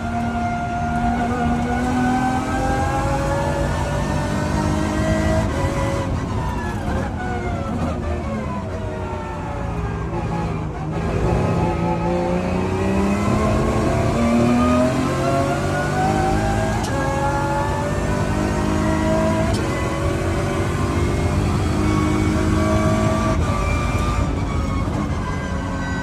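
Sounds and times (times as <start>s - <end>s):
race car engine accelerating hard: 0.0s - 26.0s.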